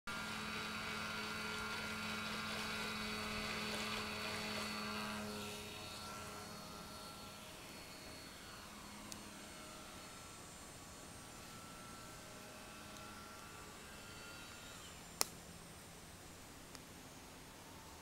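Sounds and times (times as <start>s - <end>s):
model plane motor buzzing drone: 0.1s - 18.0s.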